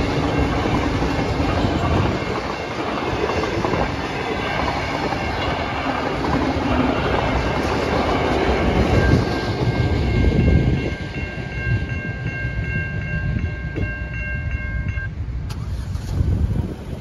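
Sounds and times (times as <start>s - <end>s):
train clattering over crossing: 0.0s - 17.0s.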